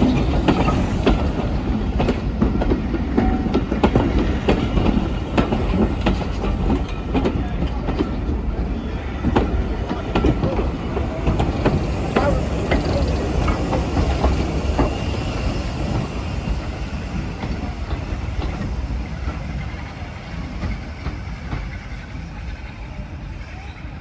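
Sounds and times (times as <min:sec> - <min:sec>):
train wheels clacking over rail joints: 0:00.0 - 0:23.3
train low rumble: 0:00.0 - 0:24.0.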